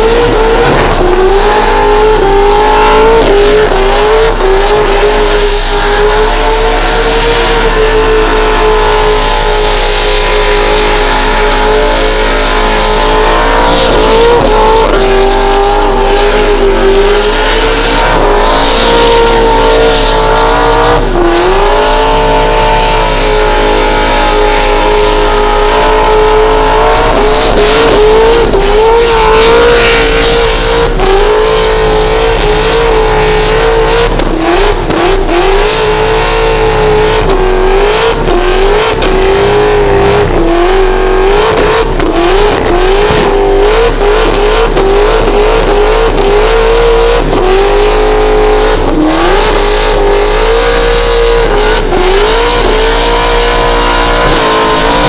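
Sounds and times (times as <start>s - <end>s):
engine revving at high revs: 0.0s - 55.0s.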